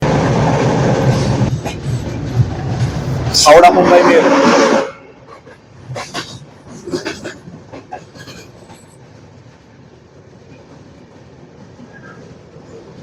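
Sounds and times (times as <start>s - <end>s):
train clattering on rails: 0.0s - 13.0s.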